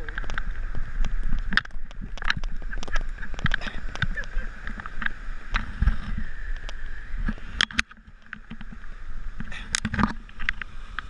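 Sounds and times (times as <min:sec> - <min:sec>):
surf rushing: 0:00.0 - 0:11.0.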